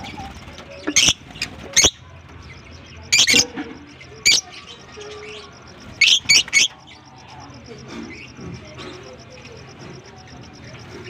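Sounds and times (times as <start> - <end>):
lovebirds chirping: 0.0 - 11.0
soft rapid high twittering: 0.0 - 11.0.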